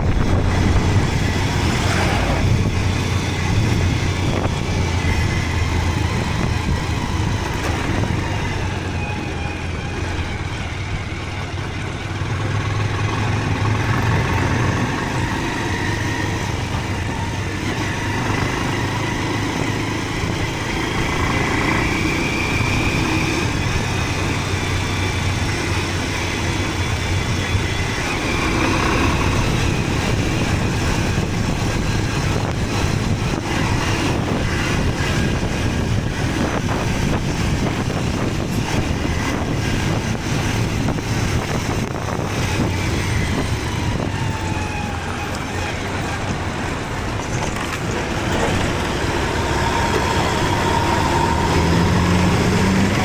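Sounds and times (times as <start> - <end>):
wind buffeting and knocks: 0.0 - 9.3, 11.4 - 52.9
motorcycle engine droning: 0.0 - 53.0
road noise: 0.0 - 53.0.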